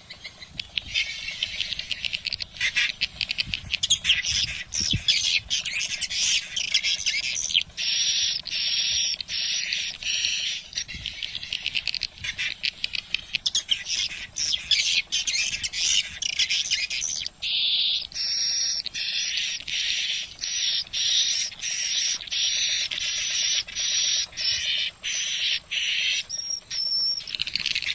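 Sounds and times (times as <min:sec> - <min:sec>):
swiftlet twittering chirps: 0:00.0 - 0:27.9.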